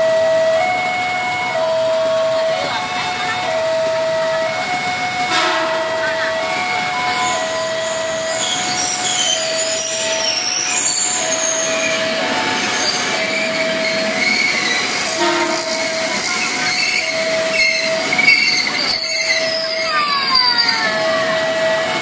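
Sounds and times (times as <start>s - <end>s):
level crossing warning alarm: 0.0s - 22.0s
train wheels rumbling on rails: 0.0s - 22.0s
wheels squealing: 0.0s - 22.0s.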